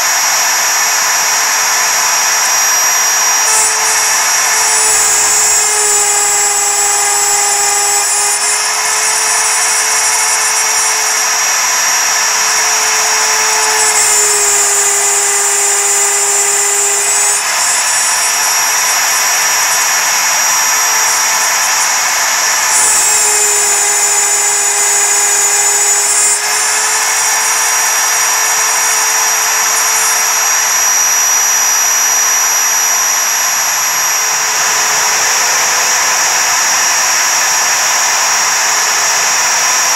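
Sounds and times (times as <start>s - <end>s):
end mill grinding metal: 0.0s - 39.9s
router spindle high whine: 0.0s - 39.9s.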